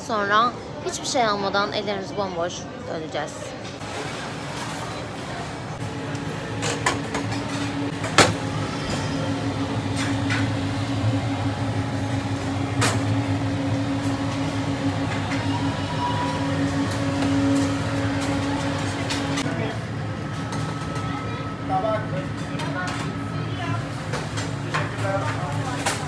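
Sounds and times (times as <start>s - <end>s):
low mechanical hum: 3.4s - 26.0s.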